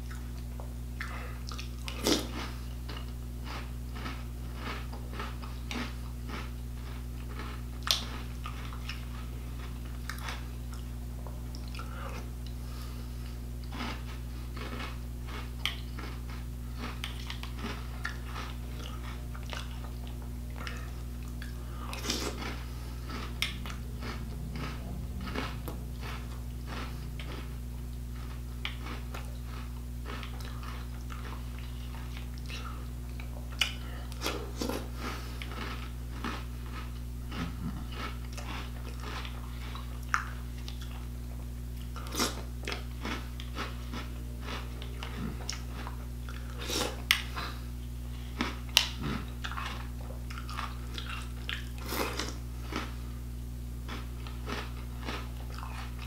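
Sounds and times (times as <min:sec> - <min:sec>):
crunching and chewing cereal: 0:00.0 - 0:53.2, 0:53.8 - 0:56.0
steady low hum: 0:00.0 - 0:56.0.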